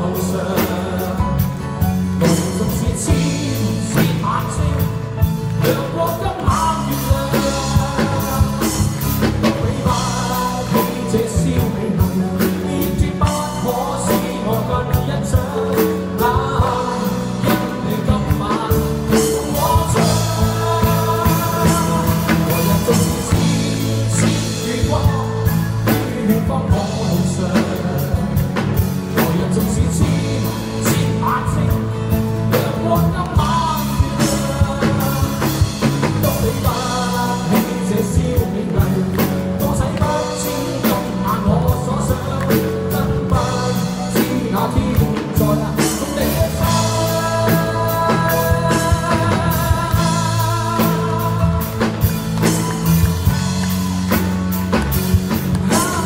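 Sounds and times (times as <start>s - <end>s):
man singing into microphone: 0.0s - 54.1s, 54.7s - 56.0s
amplified acoustic guitar: 0.0s - 56.0s
steady drum beat: 0.0s - 56.0s.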